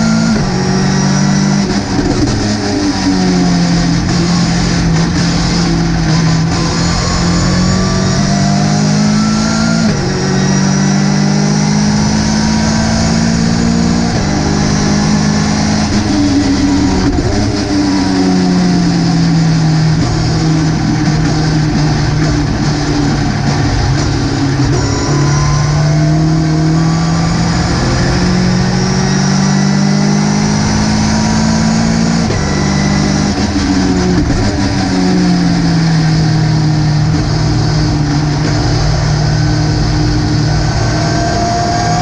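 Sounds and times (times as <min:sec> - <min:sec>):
race car engine accelerating: 0:00.0 - 0:42.0.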